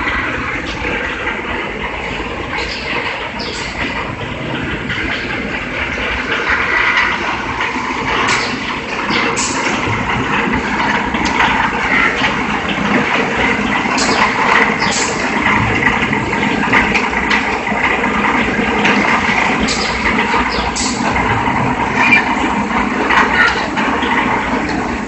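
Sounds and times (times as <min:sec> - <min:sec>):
production line machinery din: 0:00.0 - 0:25.0.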